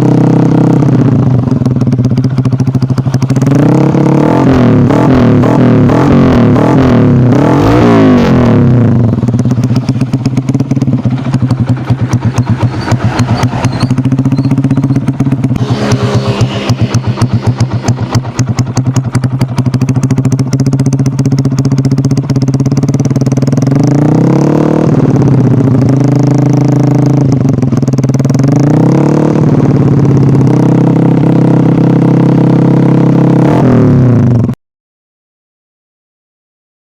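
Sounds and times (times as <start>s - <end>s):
motorcycle engine idling and revving: 0.0s - 34.6s.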